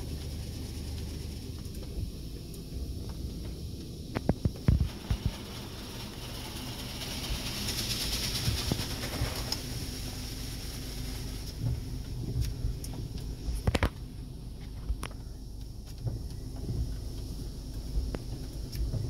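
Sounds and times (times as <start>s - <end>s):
car wash low rumble: 0.0s - 19.0s
water spray hissing on car: 0.0s - 19.0s.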